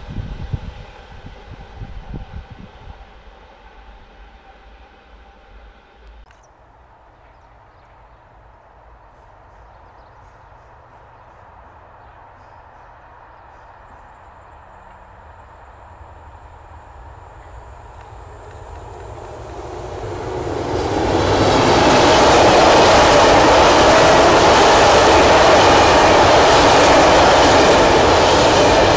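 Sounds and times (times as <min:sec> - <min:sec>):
train rumble: 0:00.0 - 0:28.9.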